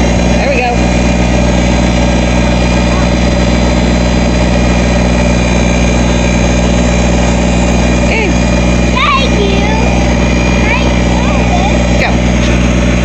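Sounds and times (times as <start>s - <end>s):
backhoe engine idling: 0.0s - 13.0s.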